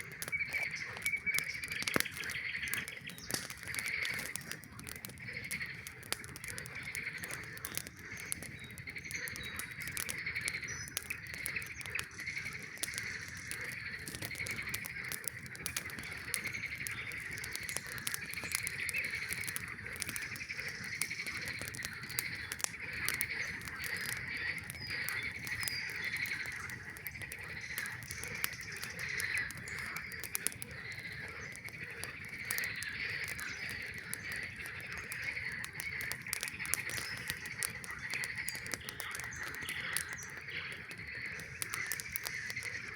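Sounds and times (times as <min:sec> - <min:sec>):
campfire crackling and popping: 0:00.0 - 0:42.9
frogs calling in chorus: 0:00.0 - 0:42.9.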